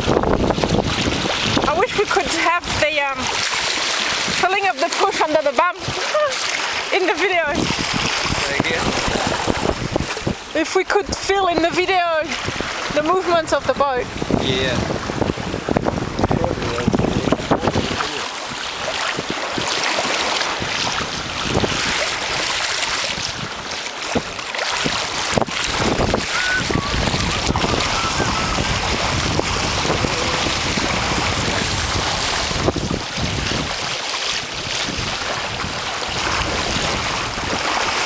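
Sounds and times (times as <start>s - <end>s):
water splashing along hull: 0.0s - 38.0s
wind buffeting microphone: 0.0s - 38.0s.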